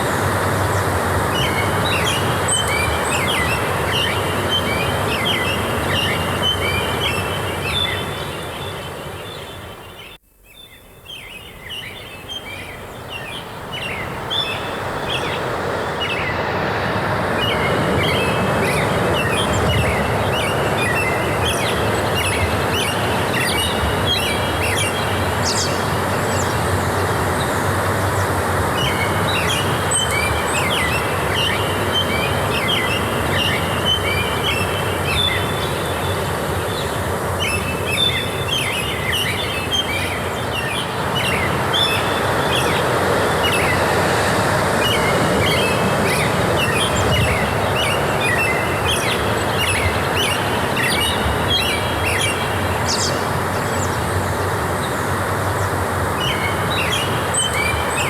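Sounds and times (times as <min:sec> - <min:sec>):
rushing forest ambience: 0:00.0 - 0:58.0
small birds chirping: 0:00.0 - 0:58.0.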